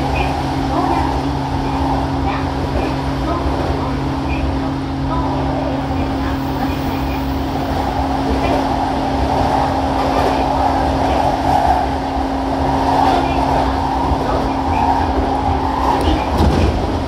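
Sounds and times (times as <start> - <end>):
constant hum: 0.0 - 17.0
train wheels rolling on rails: 0.0 - 17.0.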